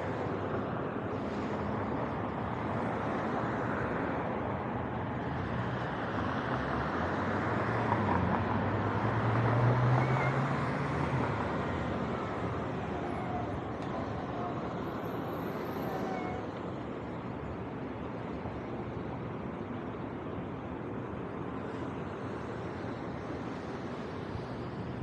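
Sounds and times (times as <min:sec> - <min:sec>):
bus engine hum: 0:00.0 - 0:25.0
cars driving by: 0:00.0 - 0:25.0.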